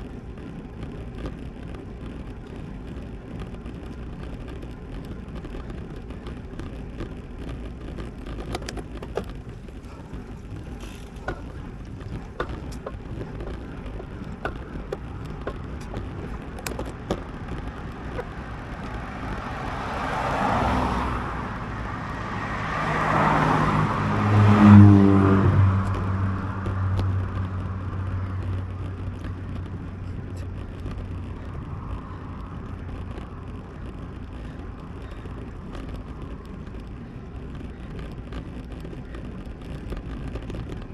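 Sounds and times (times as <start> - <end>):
vehicles passing by: 0.0 - 40.9
wind and road noise: 0.0 - 40.9.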